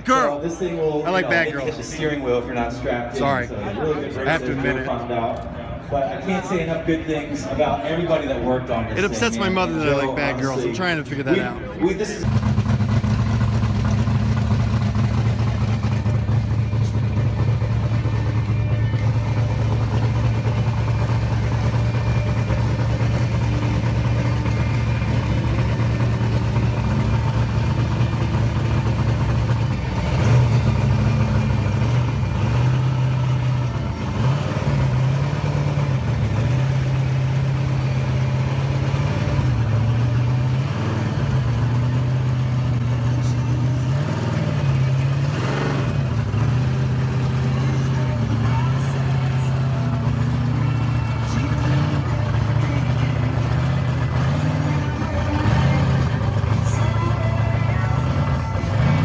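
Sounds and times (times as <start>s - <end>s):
muscle car engine idling: 9.0s - 59.0s.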